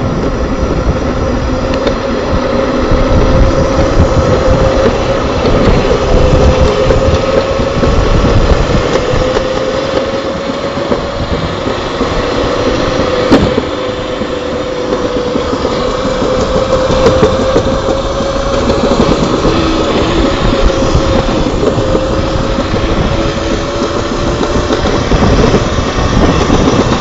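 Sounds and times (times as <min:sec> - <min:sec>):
sled rolling rumble on steel track: 0:00.0 - 0:27.0.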